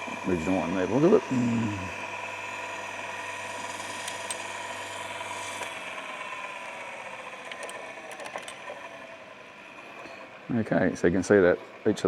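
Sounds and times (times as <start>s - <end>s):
grinding wheel motor whining: 0.0s - 12.0s.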